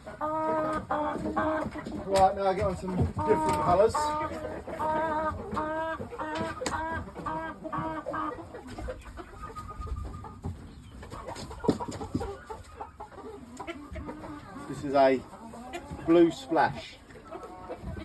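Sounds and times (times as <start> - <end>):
chicken clucking: 0.0 - 18.0.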